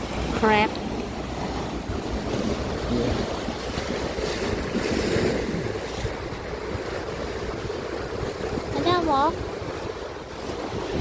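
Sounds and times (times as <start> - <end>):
ocean surf washing ashore: 0.0 - 11.0
wind buffeting microphone: 0.0 - 11.0.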